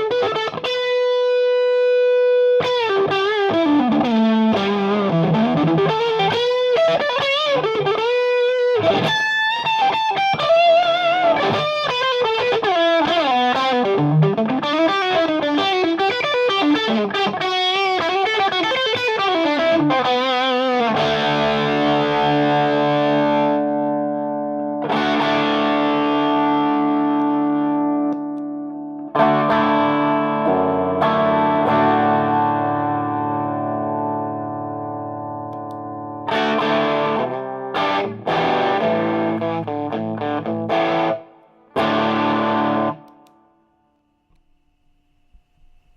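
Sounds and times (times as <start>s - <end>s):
overdriven electric guitar: 0.0s - 44.5s.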